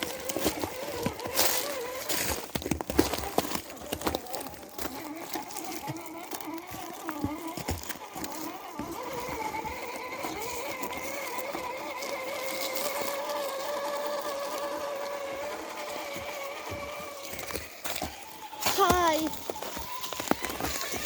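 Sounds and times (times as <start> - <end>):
electric motor and gears whining: 0.0 - 21.0.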